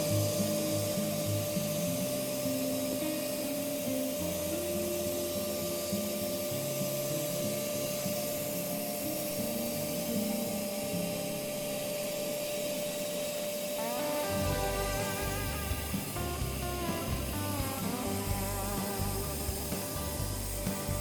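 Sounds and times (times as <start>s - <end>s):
vacuum whine: 0.0s - 21.0s.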